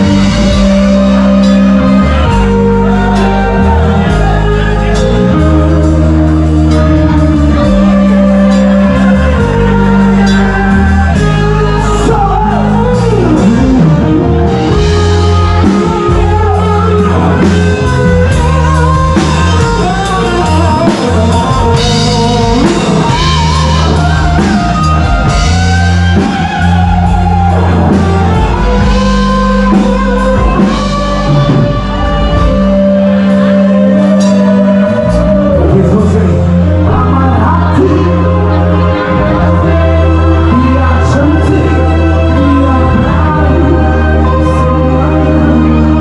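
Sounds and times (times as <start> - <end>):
live rock band playing: 0.0 - 46.0
person singing: 0.0 - 46.0.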